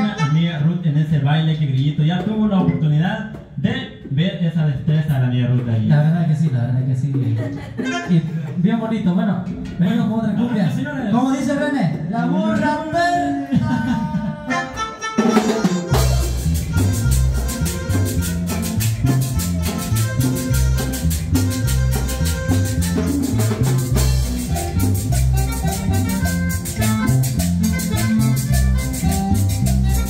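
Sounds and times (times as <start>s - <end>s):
live cumbia band playing: 0.0s - 30.0s.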